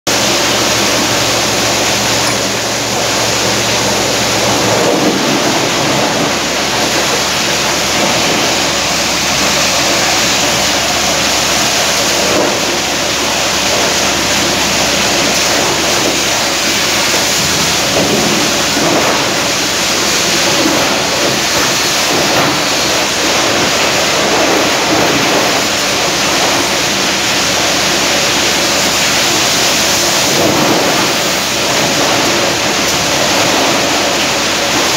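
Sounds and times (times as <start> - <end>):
low hum: 0.1 - 33.9
plastic granulator clattering: 0.1 - 34.9.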